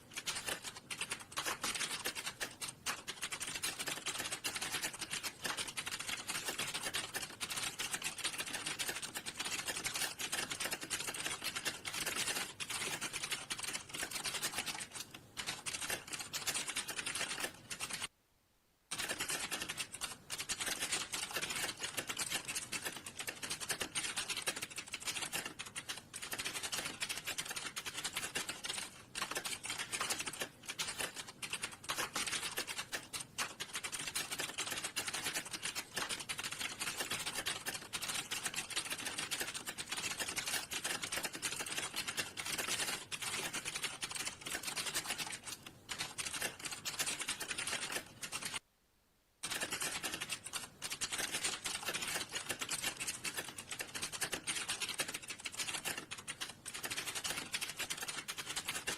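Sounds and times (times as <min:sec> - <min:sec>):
fast typing on keyboard: 0:00.0 - 0:18.1, 0:18.9 - 0:48.6, 0:49.4 - 0:58.9.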